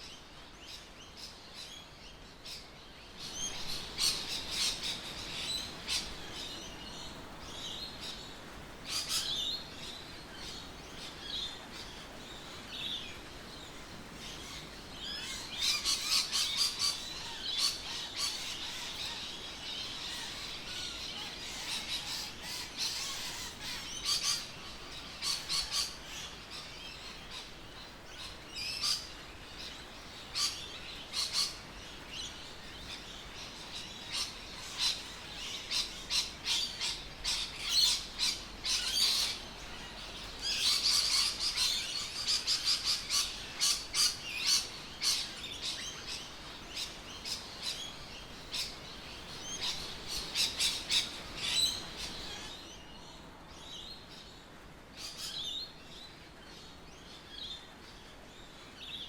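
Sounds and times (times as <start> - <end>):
faint background hiss: 0.0 - 59.0
birds chirping: 1.0 - 59.0.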